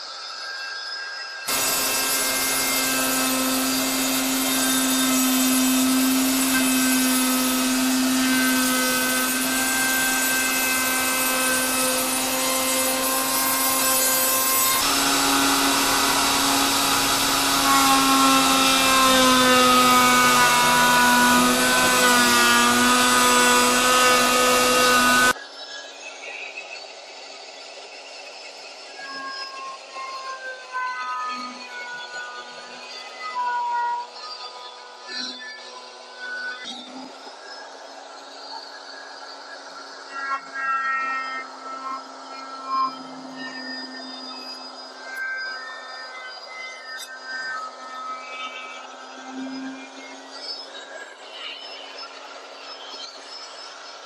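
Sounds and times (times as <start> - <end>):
wood router whining: 1.4 - 25.4, 29.0 - 53.9.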